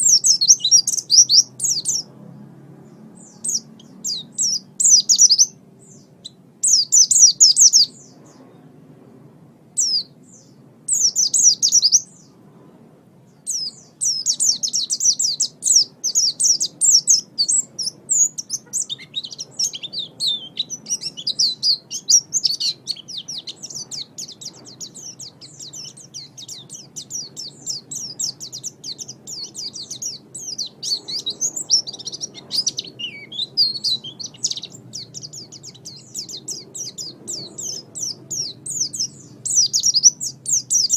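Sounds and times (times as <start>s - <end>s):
bird twittering song: 0.0s - 8.8s, 9.7s - 40.9s.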